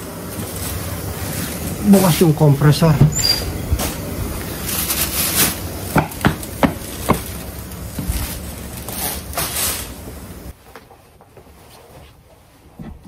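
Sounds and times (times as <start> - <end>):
jacket fabric rustling: 0.0 - 13.0.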